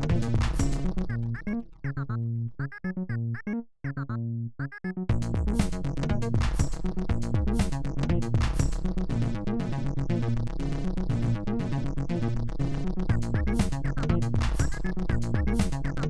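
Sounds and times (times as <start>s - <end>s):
electronic music: 0.0s - 16.0s.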